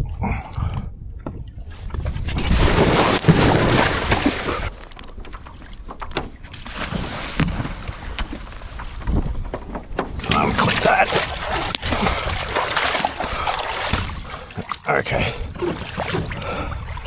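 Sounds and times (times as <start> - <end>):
wind buffeting microphone: 0.0 - 4.8, 5.7 - 17.0
water moving around boat: 0.0 - 17.0.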